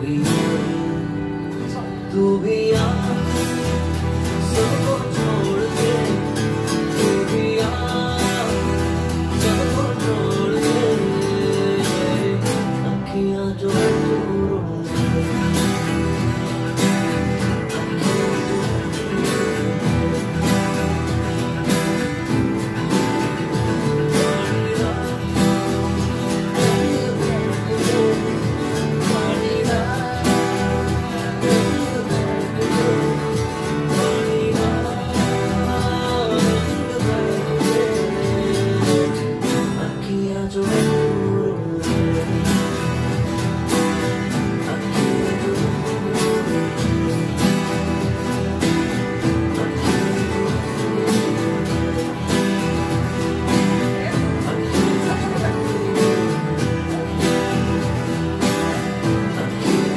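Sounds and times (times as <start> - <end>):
acoustic guitars strumming: 0.0 - 59.9.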